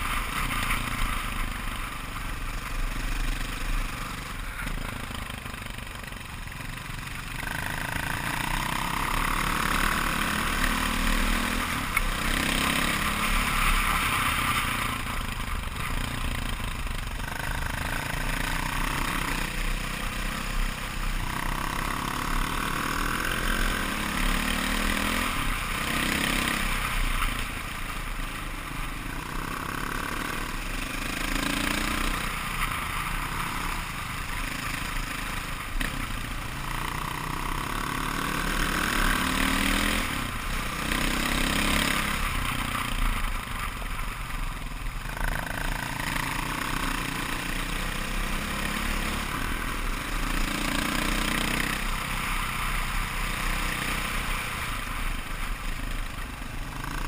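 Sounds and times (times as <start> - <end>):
motorcycle engine revving: 0.0 - 57.0
road and wind noise: 0.0 - 57.0.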